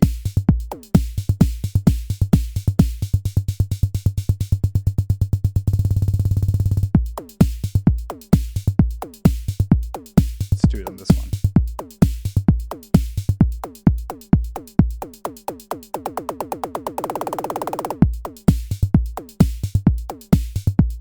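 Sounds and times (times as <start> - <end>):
drum machine beat with stutter roll: 0.0 - 21.0.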